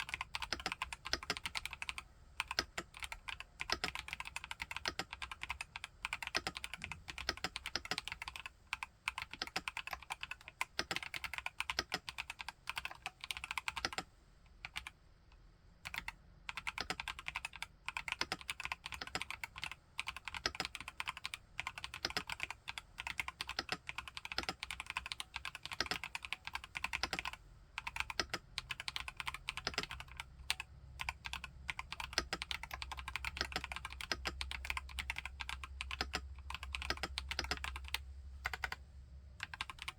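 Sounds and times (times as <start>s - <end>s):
typing on mechanical keyboard: 0.0s - 15.0s, 15.8s - 38.8s, 39.4s - 39.9s.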